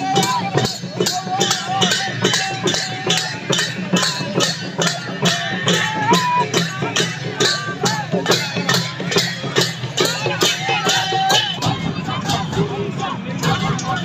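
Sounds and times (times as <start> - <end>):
crowd voices: 0.0 - 14.0
hand cymbals clashing: 0.0 - 14.0.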